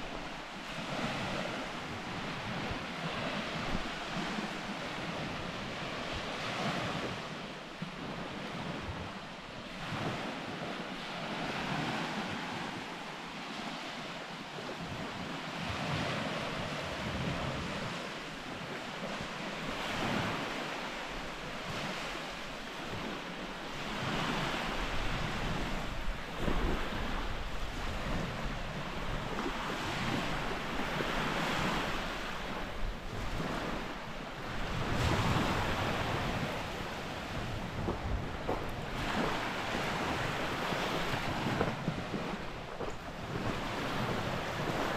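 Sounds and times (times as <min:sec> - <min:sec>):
small waves washing onto shore: 0:00.0 - 0:44.9
wind rumbling on microphone: 0:00.0 - 0:44.9.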